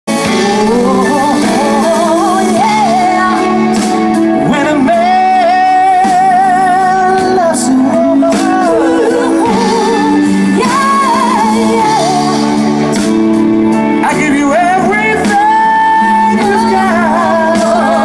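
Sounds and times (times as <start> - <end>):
drums: 0.1 - 18.0
electric guitar: 0.1 - 18.0
keyboard: 0.1 - 18.0
woman singing pop song: 0.2 - 13.2, 14.0 - 18.0.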